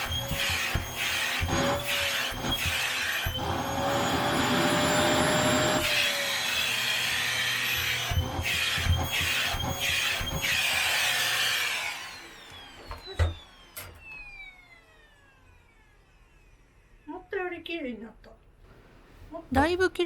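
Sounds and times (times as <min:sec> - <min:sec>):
vacuum cleaner motor whining: 0:00.0 - 0:17.1.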